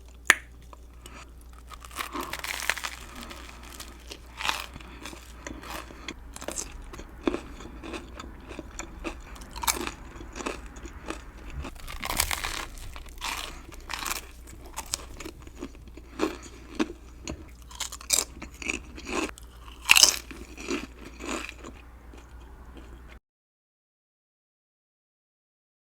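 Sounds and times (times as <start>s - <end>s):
crisp chewing crunches: 0.0s - 23.2s.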